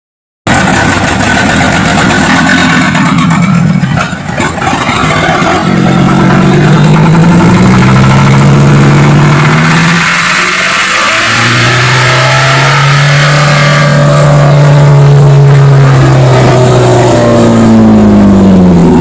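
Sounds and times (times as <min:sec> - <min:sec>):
diesel engine racing at high revs: 0:00.5 - 0:19.0.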